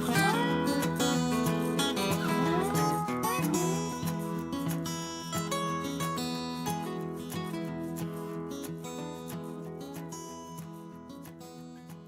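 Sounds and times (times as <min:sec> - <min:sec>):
country guitar music: 0:00.0 - 0:12.0.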